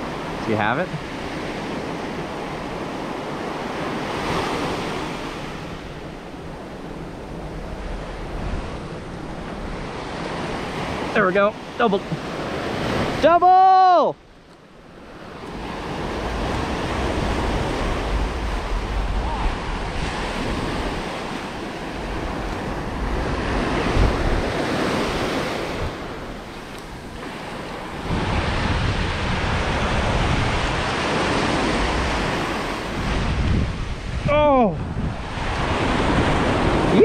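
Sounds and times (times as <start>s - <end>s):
wind buffeting microphone: 0.0s - 13.2s, 14.2s - 37.0s
ocean surf breaking: 0.0s - 37.0s.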